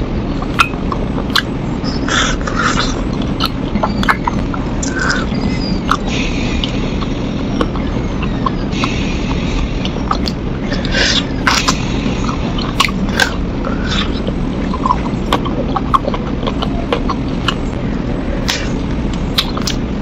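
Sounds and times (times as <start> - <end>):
low background rumble: 0.0 - 20.0
wet eating smacks and clicks: 0.4 - 8.6, 9.3 - 17.7, 18.4 - 19.9.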